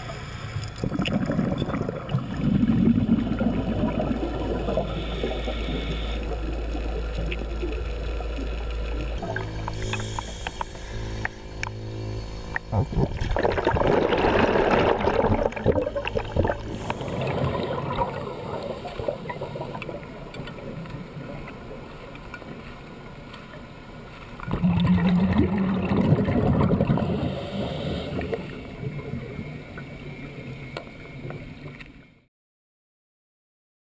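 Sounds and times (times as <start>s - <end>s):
underwater bubbles gurgling: 0.0s - 11.4s, 12.5s - 23.7s, 24.4s - 32.2s.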